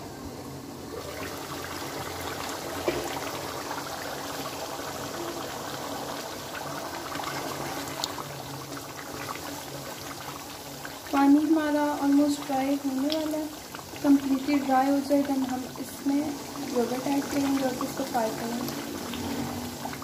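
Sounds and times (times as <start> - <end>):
gravy bubbling in a pan: 0.2 - 20.0.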